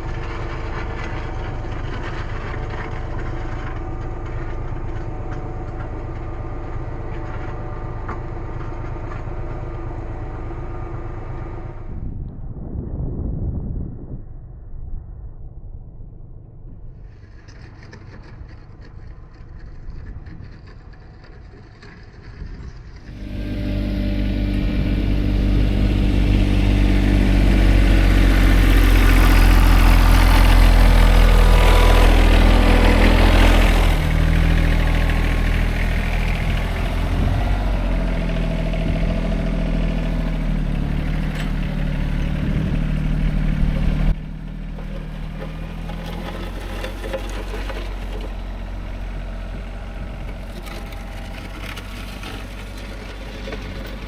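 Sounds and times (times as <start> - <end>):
tractor engine running: 0.0 - 12.1, 16.0 - 54.0.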